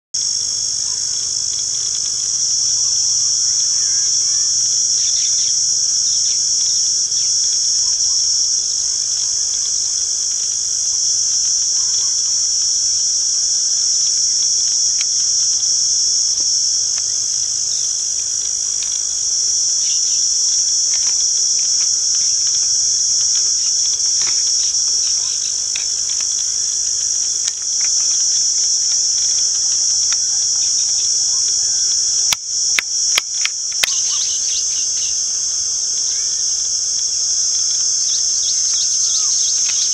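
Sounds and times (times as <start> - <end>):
shrill insect chorus: 0.2 - 39.9.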